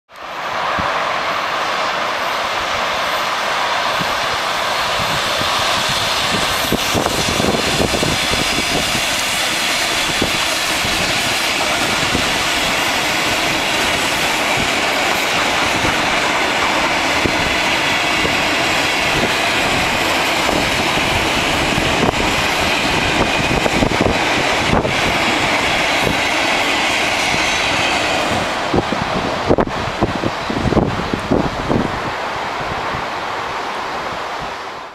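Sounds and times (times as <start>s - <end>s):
train wheels rolling on rails: 0.1s - 34.9s.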